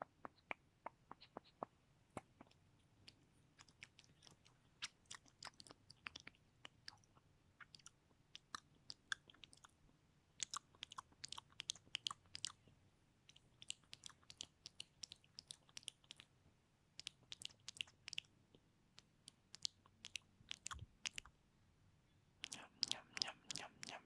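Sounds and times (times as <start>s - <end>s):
wet mouth clicks and smacks: 0.2s - 9.8s, 10.4s - 12.6s, 13.3s - 16.3s, 17.0s - 18.3s, 19.0s - 21.3s, 22.4s - 24.0s.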